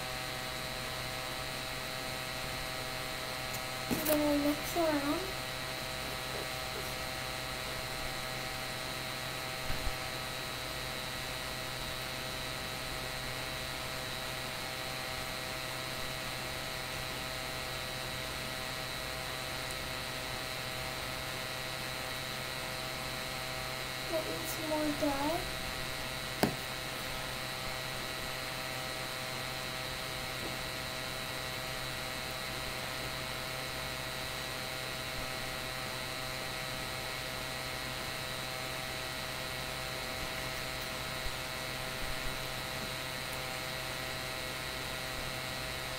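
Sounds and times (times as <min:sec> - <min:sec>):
electrical hum and hiss: 0:00.0 - 0:45.9.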